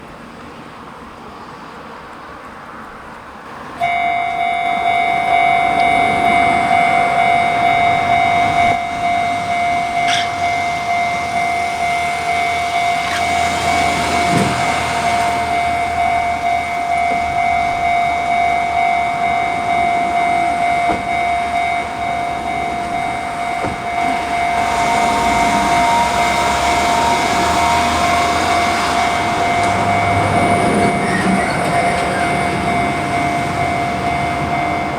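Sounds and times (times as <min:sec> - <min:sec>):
train rumble: 0:00.0 - 0:34.9
level crossing warning bell: 0:03.7 - 0:34.9.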